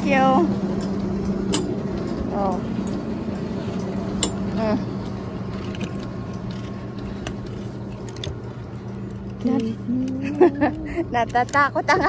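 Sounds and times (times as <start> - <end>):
chairlift machinery humming: 0.0 - 12.0.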